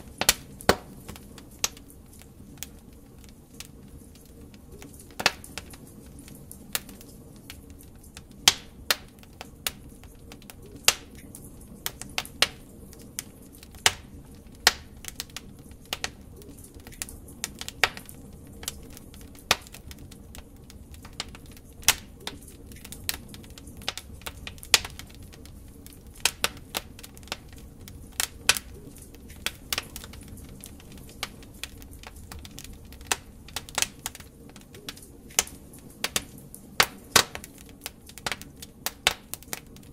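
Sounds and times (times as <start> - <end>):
log fire crackling: 0.0 - 39.9
soft roar of flames: 0.0 - 39.9.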